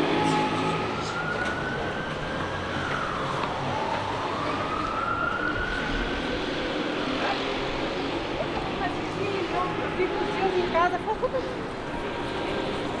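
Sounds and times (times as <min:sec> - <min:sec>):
city street noise: 0:00.0 - 0:13.0
emergency vehicle siren wailing: 0:00.0 - 0:13.0.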